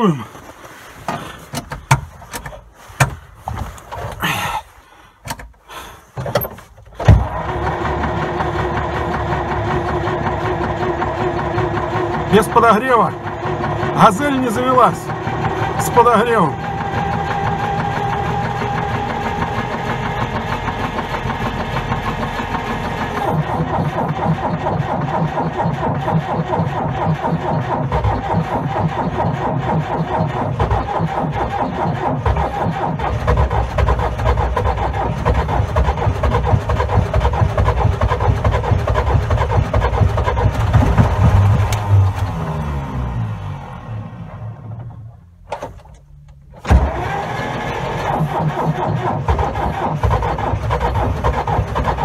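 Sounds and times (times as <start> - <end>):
tractor engine cranking by starter: 0.0 - 52.0.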